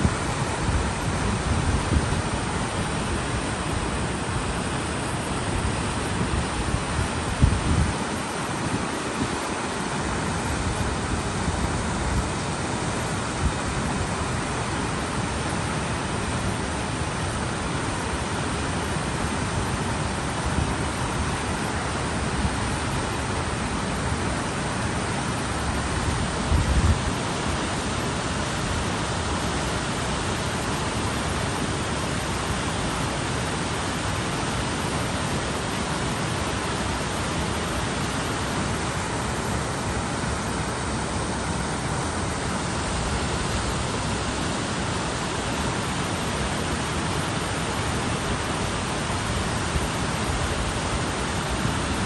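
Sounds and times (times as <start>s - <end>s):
water rushing over weir: 0.0s - 52.0s.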